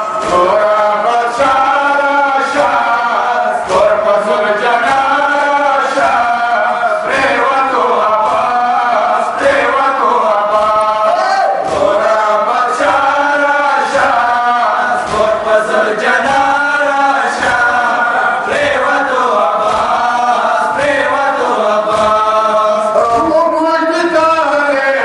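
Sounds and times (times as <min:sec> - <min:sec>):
men chanting a lament in unison: 0:00.0 - 0:25.0.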